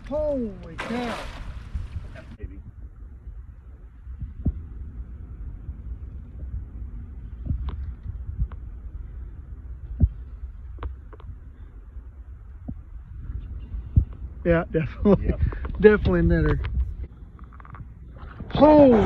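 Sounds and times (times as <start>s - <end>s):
low uneven rumble: 0.0s - 19.0s.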